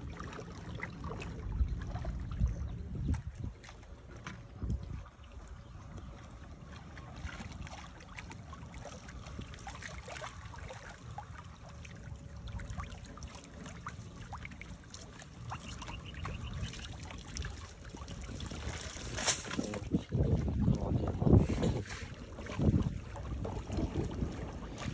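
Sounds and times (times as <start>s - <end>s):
low steady rumble: 0.0s - 24.9s.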